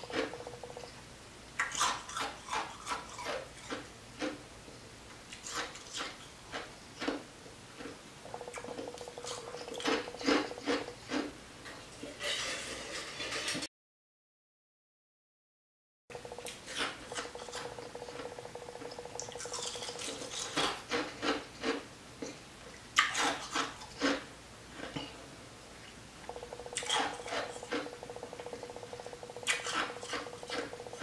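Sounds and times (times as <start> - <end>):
faint steady hum: 0.0 - 12.2, 16.1 - 31.0.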